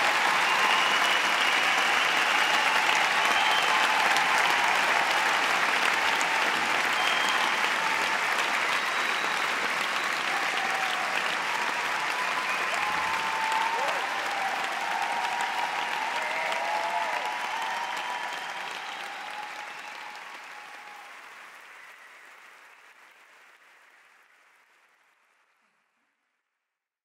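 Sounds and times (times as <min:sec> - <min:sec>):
audience cheering: 0:00.0 - 0:22.6
audience applauding: 0:00.0 - 0:25.8.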